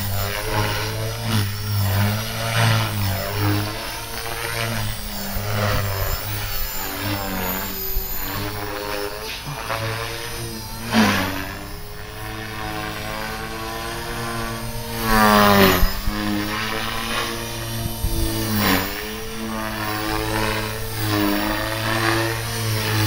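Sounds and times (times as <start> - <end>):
rc helicopter motor whine: 0.0 - 23.0.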